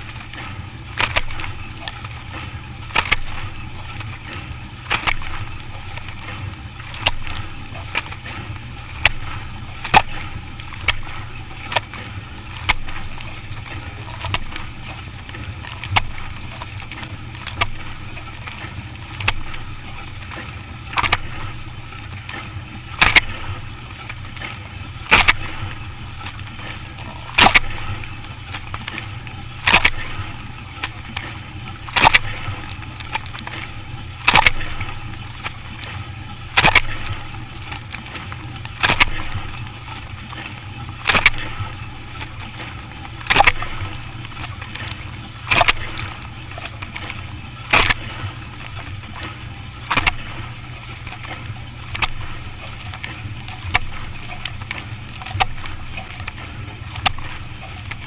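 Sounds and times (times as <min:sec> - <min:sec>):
dishwasher pump hum: 0:00.0 - 0:58.0.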